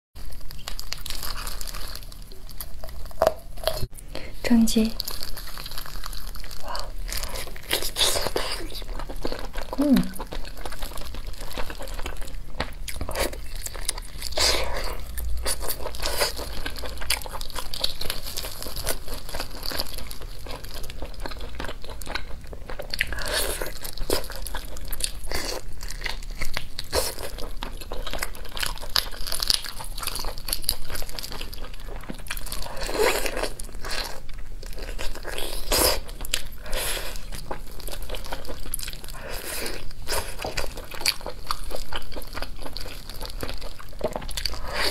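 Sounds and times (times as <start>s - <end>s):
person chewing: 0.2s - 4.2s, 5.0s - 44.9s.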